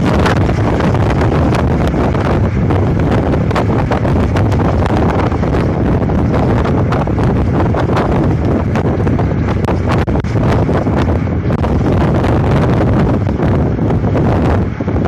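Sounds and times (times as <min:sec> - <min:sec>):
crackles and knocks: 0:00.0 - 0:12.4
wind buffeting microphone: 0:00.0 - 0:15.0.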